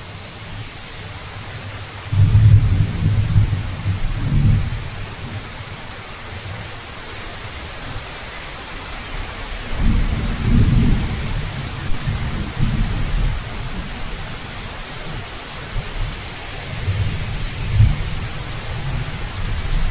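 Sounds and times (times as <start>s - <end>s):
heavy rain falling: 0.0s - 19.9s.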